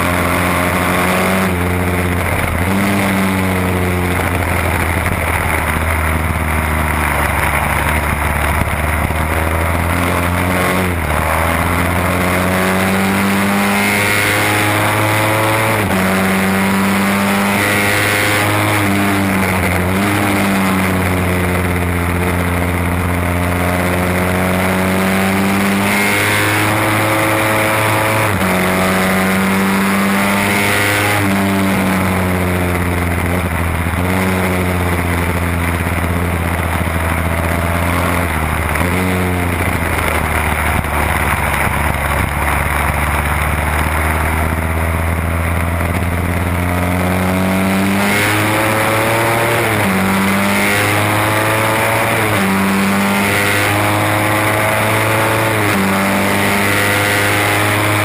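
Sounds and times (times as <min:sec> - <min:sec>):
motorcycle engine racing: 0:00.0 - 0:58.0.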